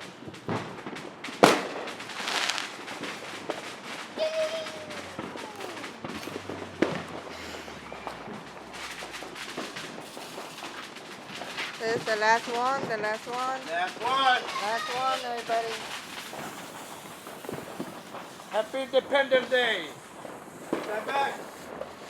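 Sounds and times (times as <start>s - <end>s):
fireworks bangs: 0.0s - 22.0s
fireworks crackling: 0.0s - 22.0s.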